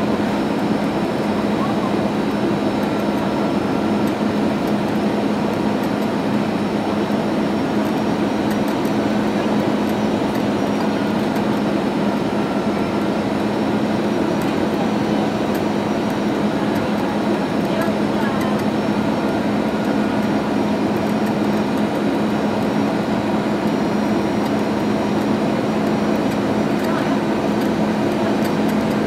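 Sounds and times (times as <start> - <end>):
jet engine droning: 0.0 - 29.0.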